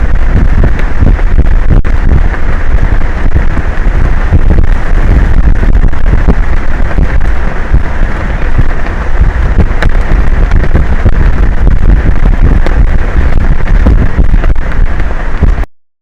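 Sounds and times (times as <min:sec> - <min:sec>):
strong wind buffeting microphone: 0:00.0 - 0:15.7.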